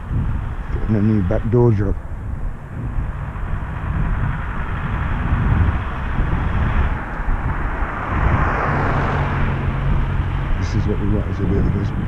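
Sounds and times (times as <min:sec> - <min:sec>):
street traffic rumble: 0:00.0 - 0:12.0
vehicle passing: 0:00.0 - 0:12.0.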